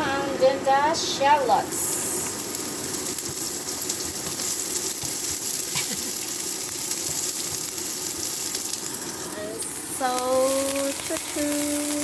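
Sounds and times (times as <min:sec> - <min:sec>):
shallots sizzling in oil: 0:00.8 - 0:12.0.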